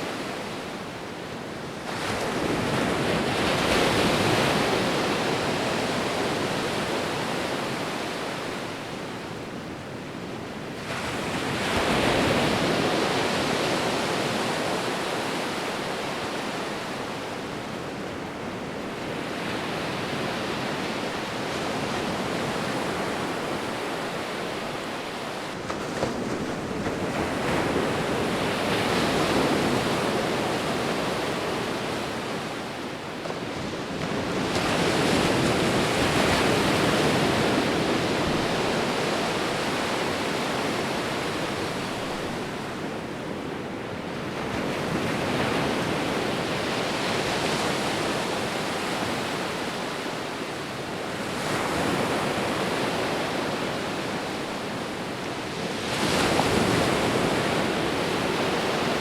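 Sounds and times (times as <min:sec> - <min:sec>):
ocean waves rolling in: 0:00.0 - 0:59.0.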